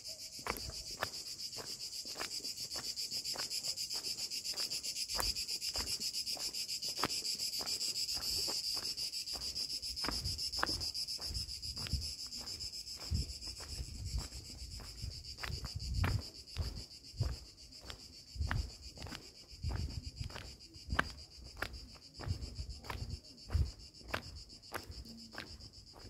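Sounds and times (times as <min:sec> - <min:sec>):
footsteps on a path: 0:00.0 - 0:26.0
insects chirring: 0:00.0 - 0:26.0.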